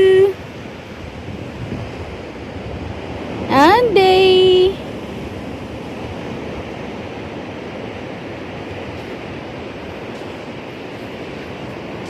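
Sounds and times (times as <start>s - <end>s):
ocean waves breaking on beach: 0.0s - 12.0s.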